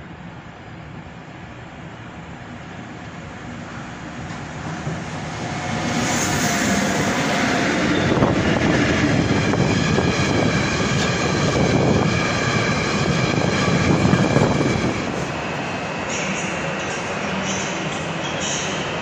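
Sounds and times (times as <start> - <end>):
electric locomotive passing: 0.0 - 19.0.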